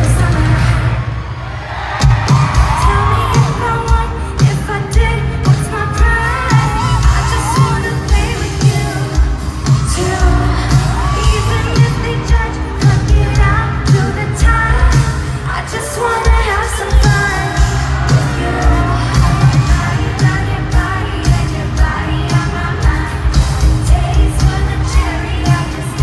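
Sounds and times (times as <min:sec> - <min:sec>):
woman singing into a microphone: 0:00.0 - 0:01.0, 0:02.7 - 0:26.0.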